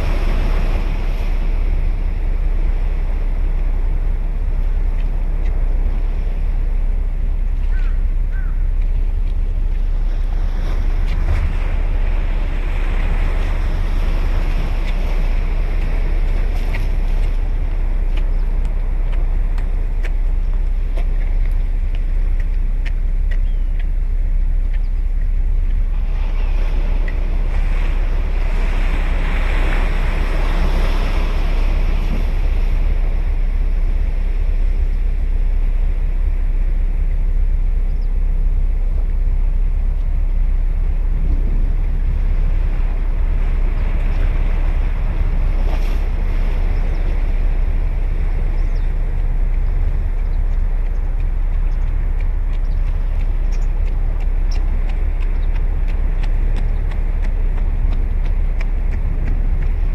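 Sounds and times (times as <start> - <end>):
sea waves breaking: 0.0 - 59.9
wind rumble on microphone: 0.0 - 59.9.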